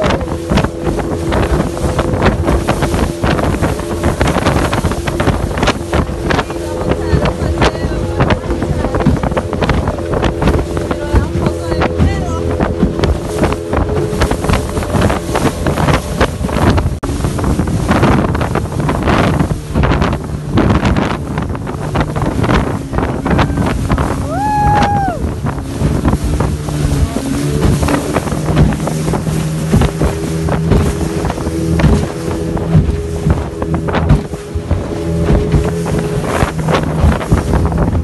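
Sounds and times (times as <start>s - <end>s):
hull slapping choppy water: 0.0s - 38.0s
outboard motor running: 0.0s - 38.0s
wind buffeting microphone: 0.0s - 38.0s.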